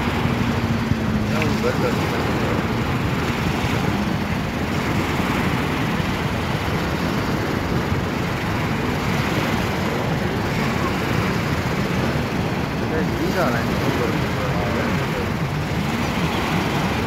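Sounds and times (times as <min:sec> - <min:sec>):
jet ski engine rumble: 0:00.0 - 0:17.0.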